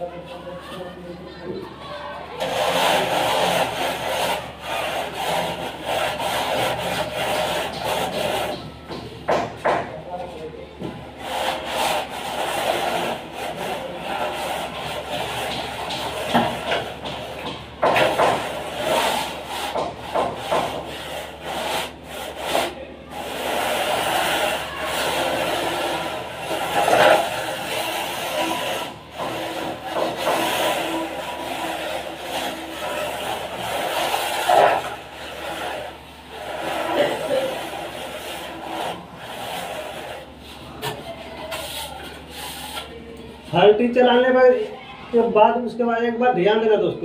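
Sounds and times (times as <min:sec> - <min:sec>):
plastering tool scraping wall: 0:02.4 - 0:43.0.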